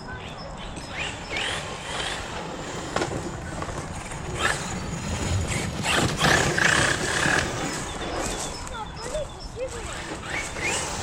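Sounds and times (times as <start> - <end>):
toy truck motor revving: 0.6 - 11.0.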